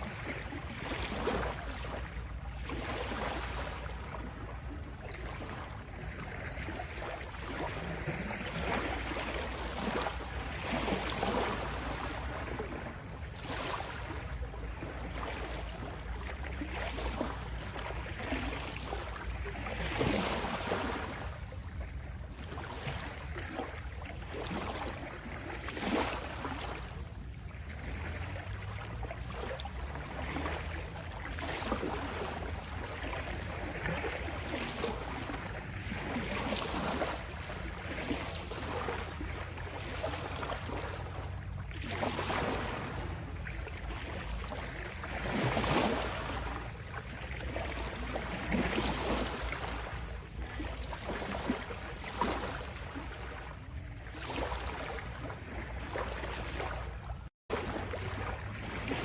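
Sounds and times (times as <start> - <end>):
small waves lapping on shore: 0.0 - 59.0.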